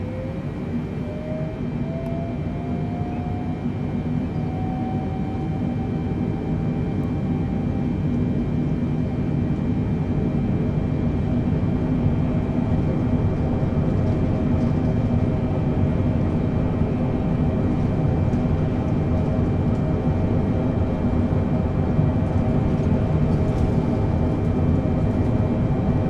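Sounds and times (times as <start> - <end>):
constant hums: 0.0 - 26.0
jet engines roaring: 0.0 - 26.0.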